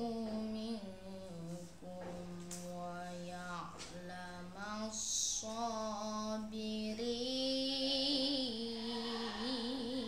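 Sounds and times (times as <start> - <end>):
boy chanting recitation: 0.0 - 10.0.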